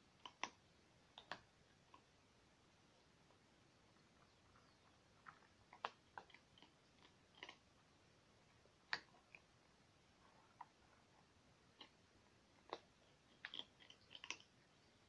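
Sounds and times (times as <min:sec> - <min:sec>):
cats crunching food: 0:00.2 - 0:02.0, 0:04.1 - 0:14.8.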